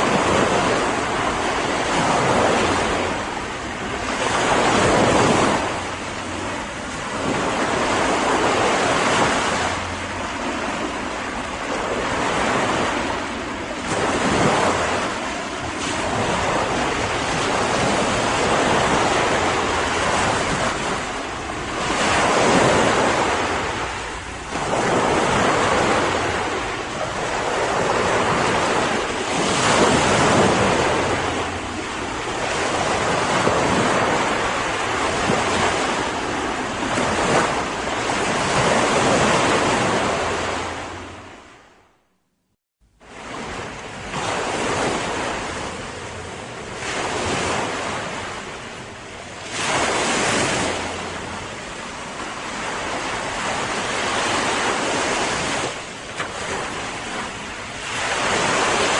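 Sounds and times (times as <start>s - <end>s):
ocean waves breaking: 0.0s - 42.0s, 42.9s - 58.9s.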